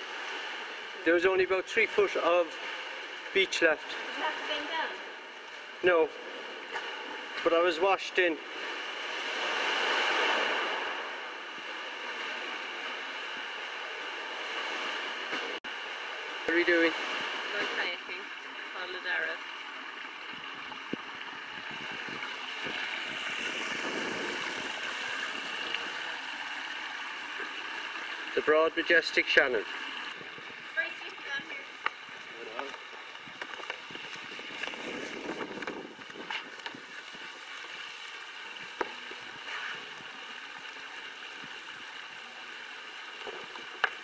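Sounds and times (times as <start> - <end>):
seawater washing among rocks: 0.0 - 44.0.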